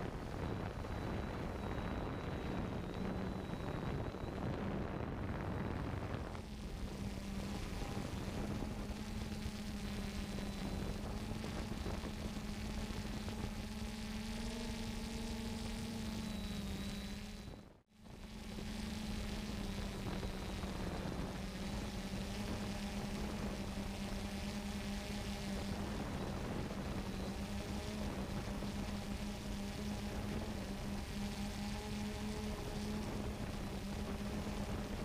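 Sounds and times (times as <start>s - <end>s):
drone propellers humming: 0.0s - 17.6s, 18.2s - 35.0s.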